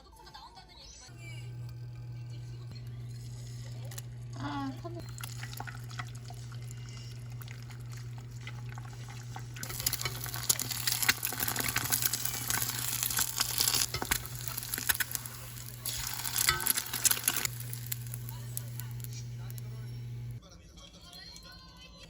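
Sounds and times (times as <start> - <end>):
low hum: 1.1 - 20.4
food sizzling in a frying pan: 1.2 - 20.4.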